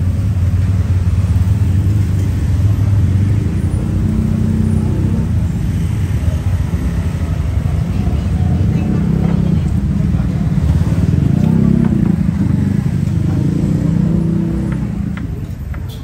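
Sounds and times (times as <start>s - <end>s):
engine hum: 0.0s - 16.0s
low rumble of traffic: 0.0s - 16.0s.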